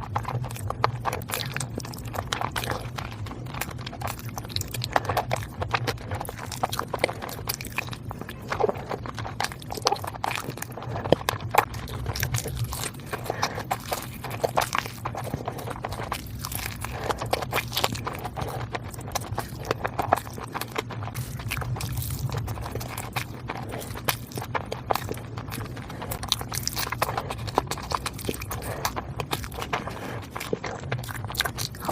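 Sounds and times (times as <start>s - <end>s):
chewing with wet mouth smacks: 0.0s - 31.9s
low steady hum: 0.0s - 31.9s.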